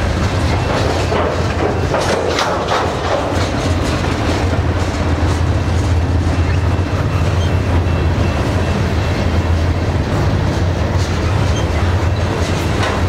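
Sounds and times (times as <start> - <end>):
train wheels rumbling on rails: 0.0 - 13.0
wheels clacking over rail joints: 0.0 - 13.0.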